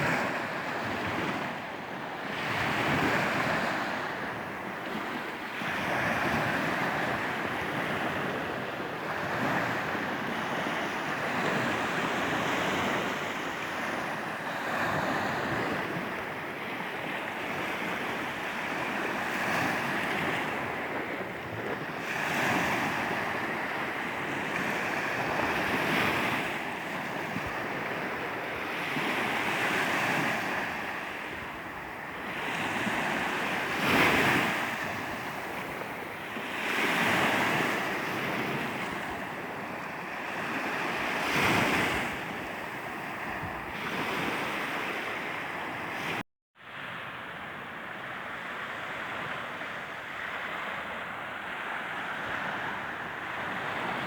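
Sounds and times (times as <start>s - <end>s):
sea waves washing onto beach: 0.0s - 54.0s
wind buffeting microphone: 2.4s - 46.2s.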